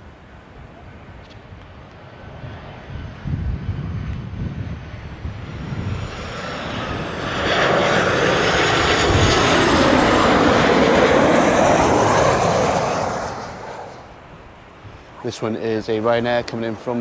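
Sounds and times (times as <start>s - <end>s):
airliner passing overhead: 0.0s - 17.0s.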